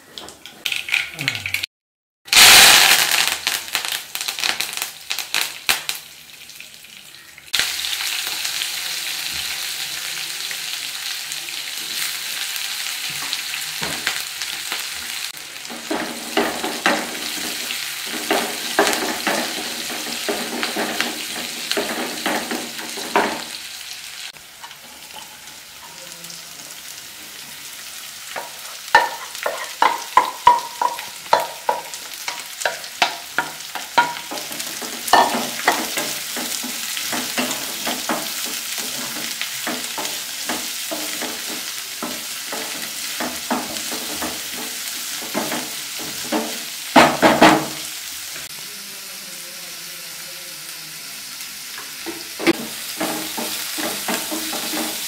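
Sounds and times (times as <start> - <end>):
leaves crackling in hot oil: 2.3 - 55.0.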